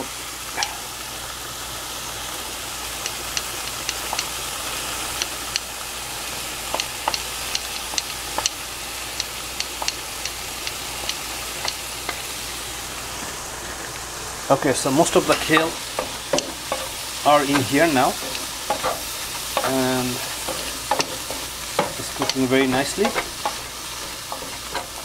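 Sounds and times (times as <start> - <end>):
mushrooms sizzling in frying pan: 0.0 - 25.0.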